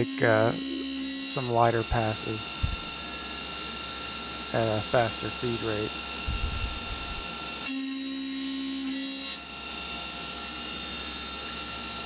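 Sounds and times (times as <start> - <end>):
milling machine whine: 0.0 - 12.0.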